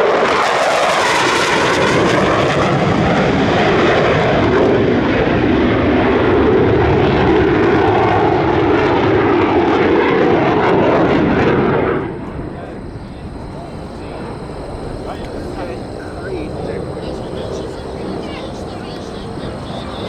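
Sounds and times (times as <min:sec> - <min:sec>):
jet engines passing low: 0:00.0 - 0:20.0.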